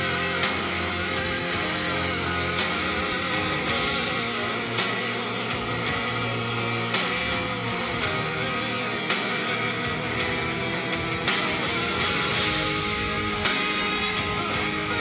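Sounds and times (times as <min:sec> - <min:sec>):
guitar-led music: 0:00.0 - 0:15.0.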